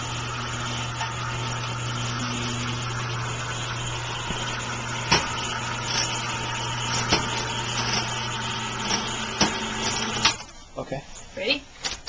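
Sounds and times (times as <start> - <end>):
hoist motor humming: 0.0 - 10.5.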